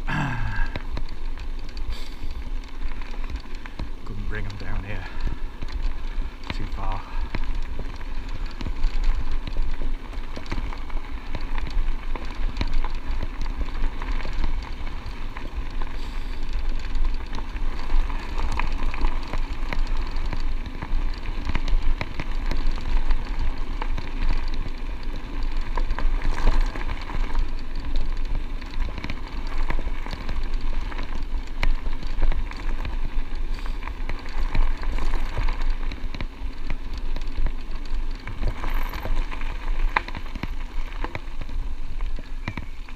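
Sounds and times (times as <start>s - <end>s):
bike tyres crunching over gravel: 0.0s - 42.9s.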